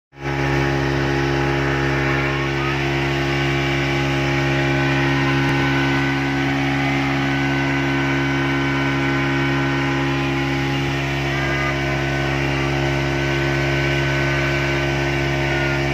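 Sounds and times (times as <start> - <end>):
outboard motor running: 0.1 - 15.9.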